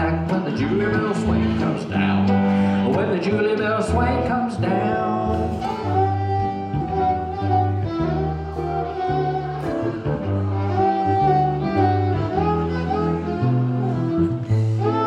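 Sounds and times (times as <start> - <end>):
fiddle bowing melody: 0.0 - 3.2, 4.0 - 15.0
archtop guitar: 0.0 - 15.0
plucked upright bass: 0.0 - 15.0.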